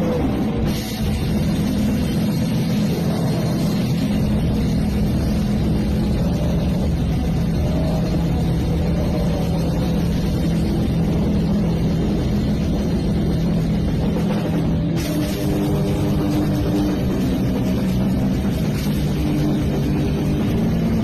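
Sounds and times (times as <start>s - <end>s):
distorted amplified droning chord: 0.0s - 21.0s.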